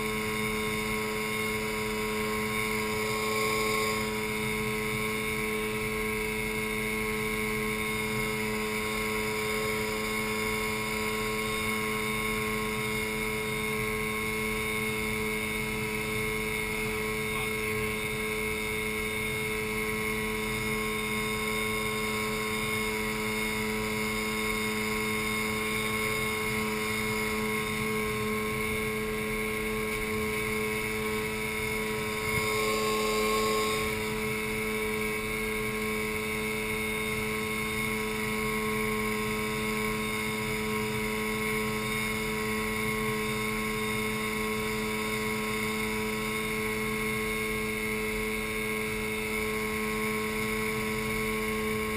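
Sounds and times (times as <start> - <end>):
outboard motor humming: 0.0 - 51.9.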